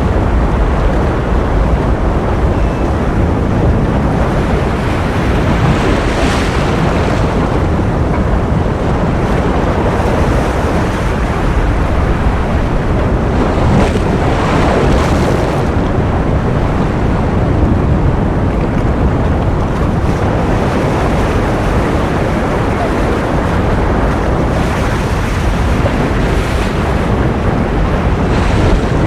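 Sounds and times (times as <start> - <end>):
ocean waves rushing: 0.0 - 29.0.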